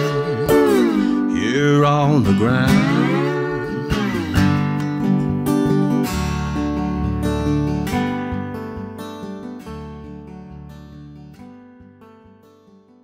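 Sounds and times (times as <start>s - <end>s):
slide guitar notes and chords: 0.0s - 12.7s.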